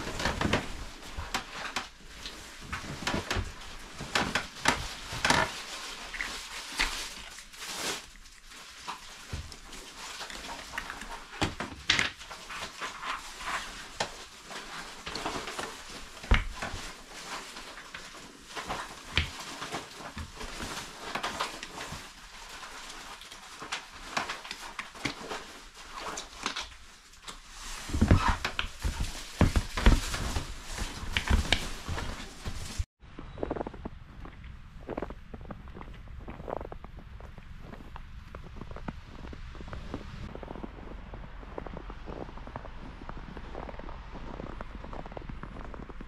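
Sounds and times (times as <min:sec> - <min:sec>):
rustling of clothing and rubber: 0:00.0 - 0:46.0.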